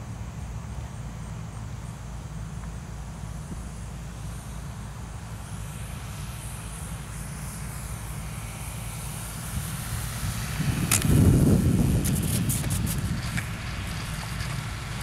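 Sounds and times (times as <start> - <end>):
model airplane propeller whine: 0.0 - 15.0.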